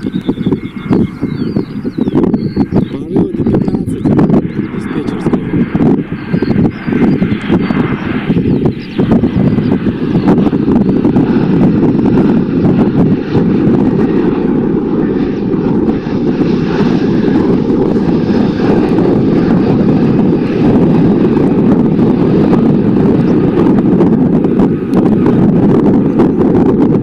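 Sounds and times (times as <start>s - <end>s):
jet airliner engines droning: 0.0s - 27.0s.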